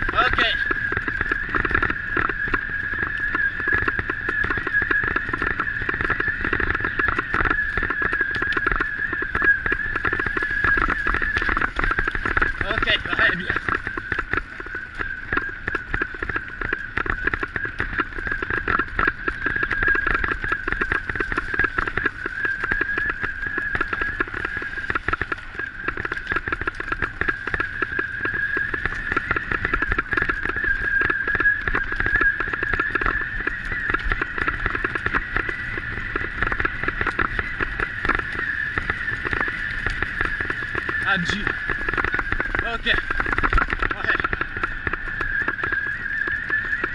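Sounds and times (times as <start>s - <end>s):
bicycle rattling over dirt trail: 0.0s - 46.9s
steady high whine: 0.0s - 46.9s.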